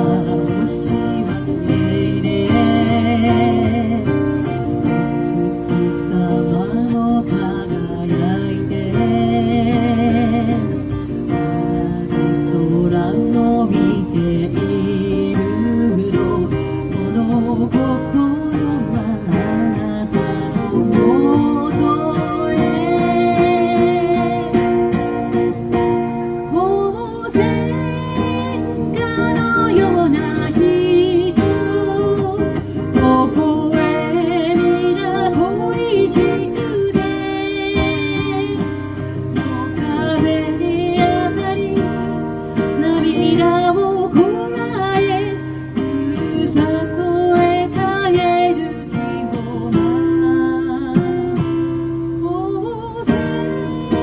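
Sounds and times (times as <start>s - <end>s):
strummed acoustic guitar song: 0.0s - 54.0s.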